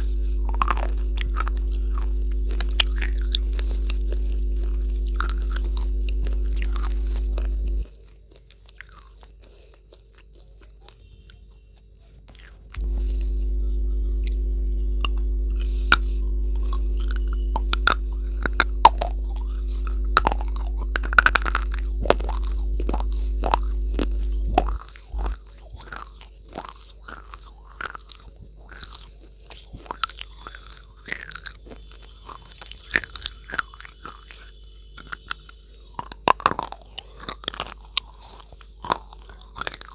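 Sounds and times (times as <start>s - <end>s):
chewing brittle chalk: 0.0s - 39.9s
low electrical hum: 0.0s - 39.9s.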